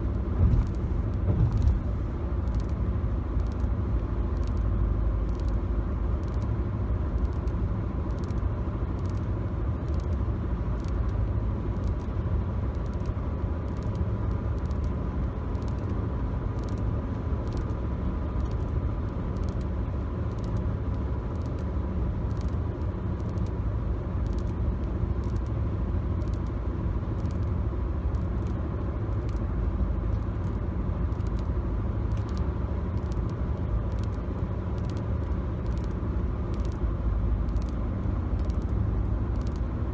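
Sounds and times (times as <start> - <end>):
road rumble inside car: 0.0 - 39.9
faint irregular light clicks: 0.1 - 39.9.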